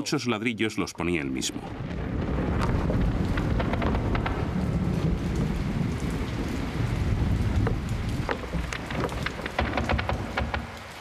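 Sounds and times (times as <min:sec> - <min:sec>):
rain falling: 0:00.0 - 0:11.0
low rumble: 0:01.5 - 0:10.5.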